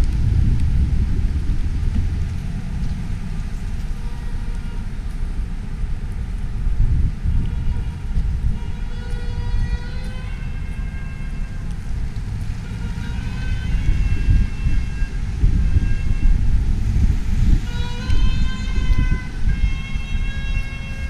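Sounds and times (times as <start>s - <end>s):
traffic rumble: 0.0s - 21.0s
wind: 0.0s - 21.0s.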